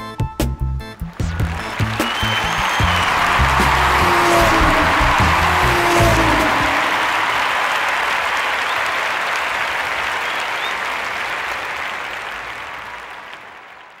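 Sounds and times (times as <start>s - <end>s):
crowd applause: 1.1s - 14.0s.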